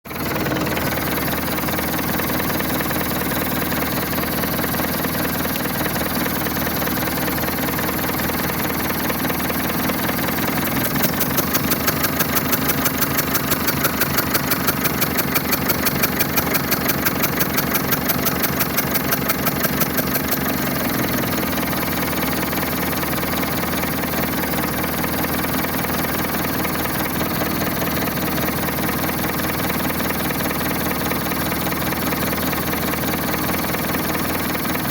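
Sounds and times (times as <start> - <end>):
diesel engine misfiring: 0.1 - 34.9.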